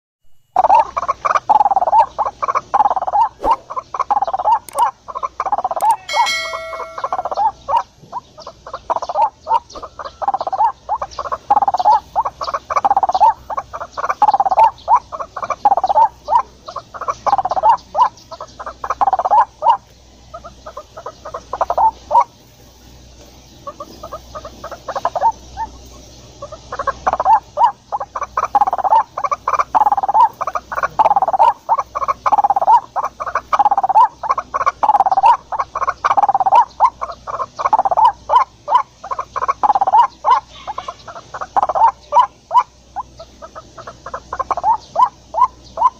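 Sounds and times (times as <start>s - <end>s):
waterhen calling: 0.6s - 22.4s, 23.5s - 45.9s.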